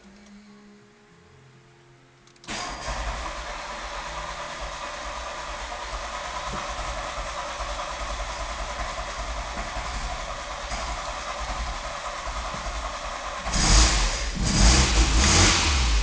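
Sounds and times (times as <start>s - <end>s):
car engine idling: 2.5s - 16.0s.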